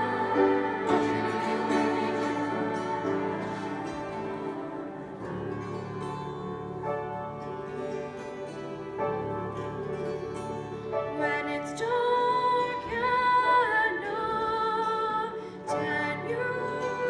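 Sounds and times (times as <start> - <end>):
piano: 0.0 - 17.0.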